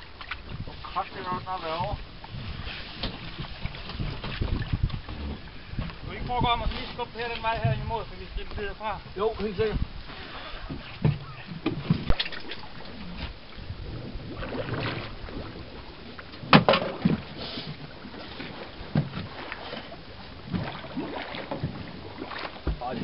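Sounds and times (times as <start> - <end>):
water sloshing: 0.0 - 23.0.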